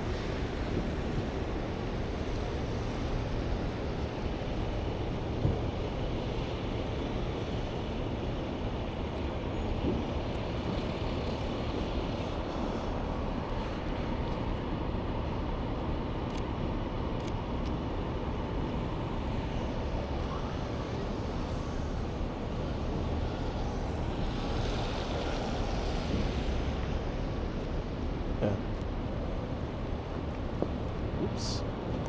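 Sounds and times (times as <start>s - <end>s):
city street traffic rumble: 0.0s - 32.0s.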